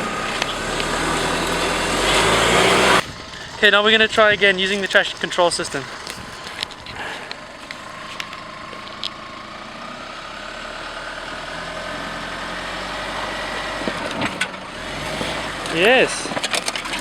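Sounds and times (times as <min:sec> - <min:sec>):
engine pulling under load: 0:00.0 - 0:17.0.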